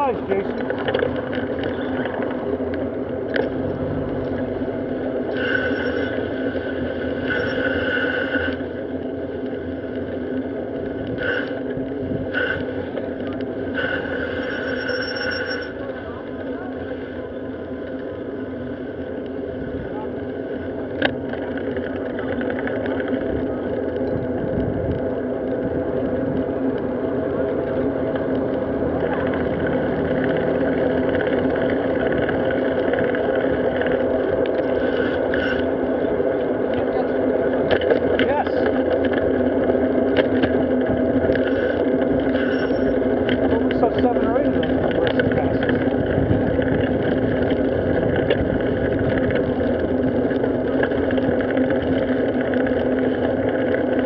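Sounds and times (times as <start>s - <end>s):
high whine: 0.0s - 54.0s
wind and road noise from bicycle: 0.0s - 54.0s.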